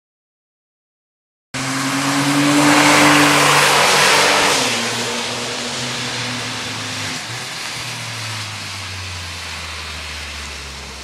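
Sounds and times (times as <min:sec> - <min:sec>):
sports car passing: 0:01.6 - 0:11.0.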